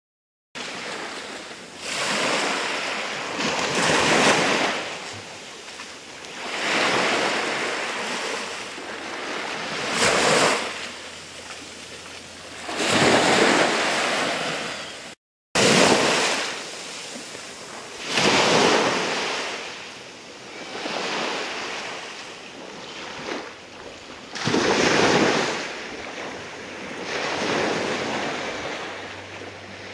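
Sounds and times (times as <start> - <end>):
small waves washing on sand: 0.6 - 29.9.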